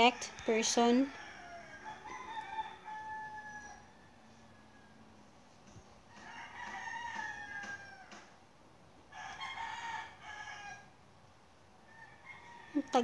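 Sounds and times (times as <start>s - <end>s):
faint rooster crowing: 0.0s - 8.5s, 9.1s - 11.0s, 11.8s - 13.0s.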